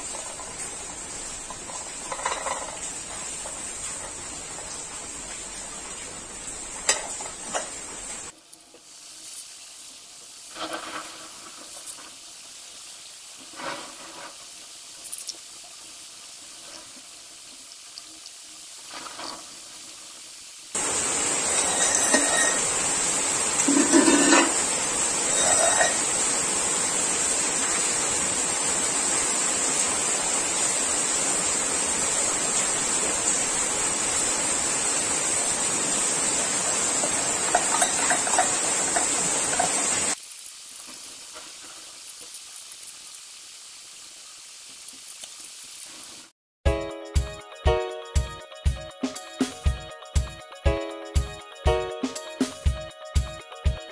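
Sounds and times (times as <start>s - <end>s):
loud hiss with high whine: 0.0s - 46.3s.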